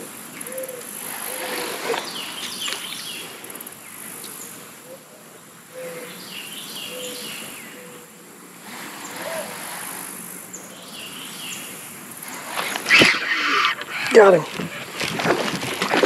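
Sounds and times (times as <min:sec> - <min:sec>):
birds chirping: 0:00.0 - 0:16.0
high insect hiss: 0:00.0 - 0:16.0.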